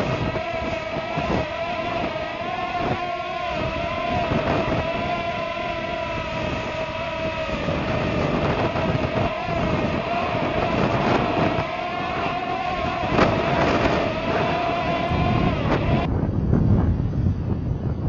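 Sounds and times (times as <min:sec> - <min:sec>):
drone motors whining: 0:00.0 - 0:16.1
wind buffeting microphone: 0:00.0 - 0:18.0.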